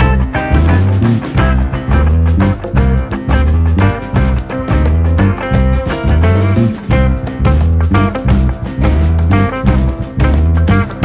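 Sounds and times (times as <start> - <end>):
upbeat guitar music with bass beat: 0.0 - 11.0.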